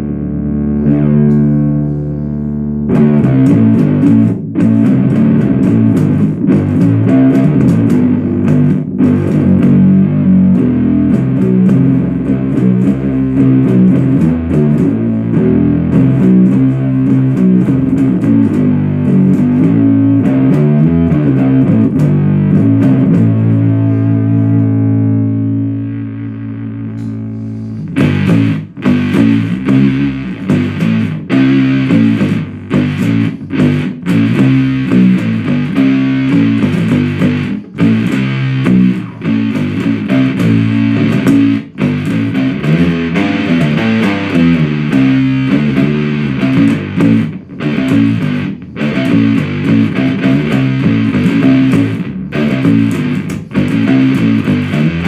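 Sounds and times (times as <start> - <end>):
fuzz bass guitar riffing: 0.0 - 55.0.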